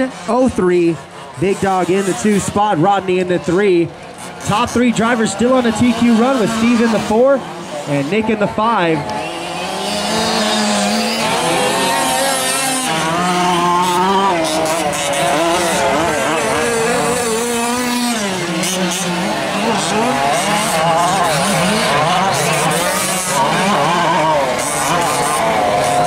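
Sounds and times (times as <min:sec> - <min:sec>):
small two-stroke engines revving: 0:00.0 - 0:26.0.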